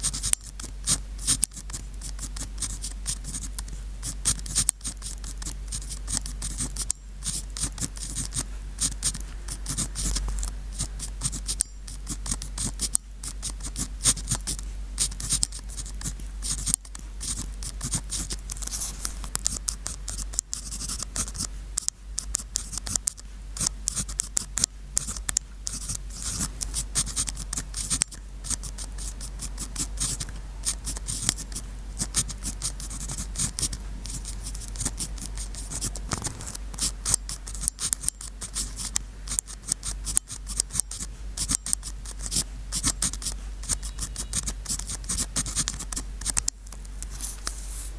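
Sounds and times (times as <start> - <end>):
pen scratching on paper: 0.0 - 46.5
faint low hum: 0.0 - 47.9.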